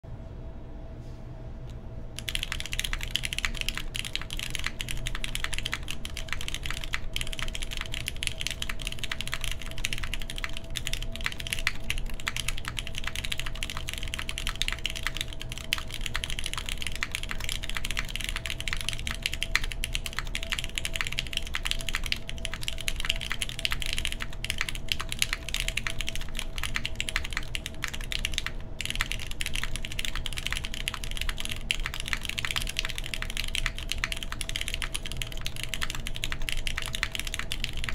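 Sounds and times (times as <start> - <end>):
fast typing on mechanical keyboard: 2.2 - 37.9.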